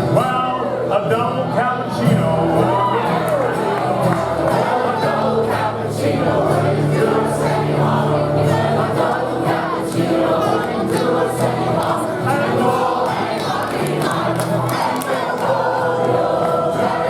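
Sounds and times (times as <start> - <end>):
group singing in chorus: 0.0 - 17.0.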